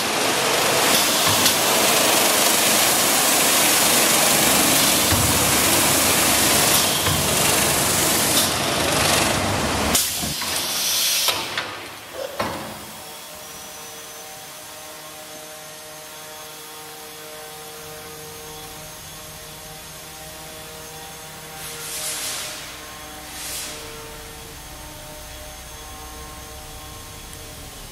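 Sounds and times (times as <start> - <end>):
electric motors humming: 0.0 - 10.5, 11.4 - 27.9.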